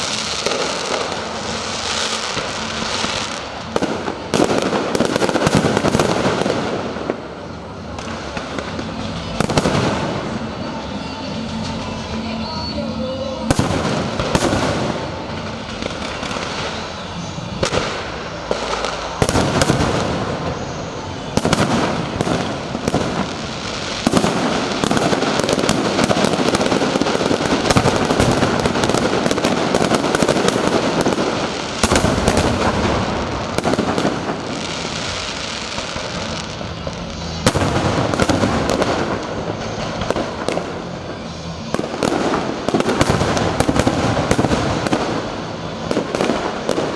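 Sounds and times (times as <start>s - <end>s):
fireworks bangs: 0.0s - 46.9s
fireworks crackle: 0.0s - 46.9s.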